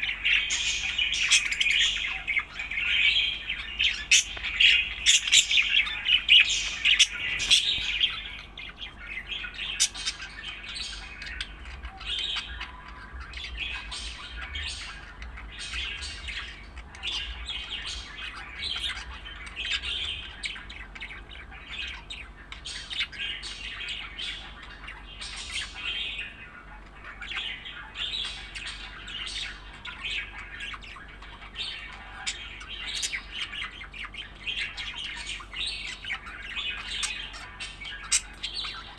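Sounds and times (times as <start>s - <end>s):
budgerigar chirping: 0.0s - 38.9s.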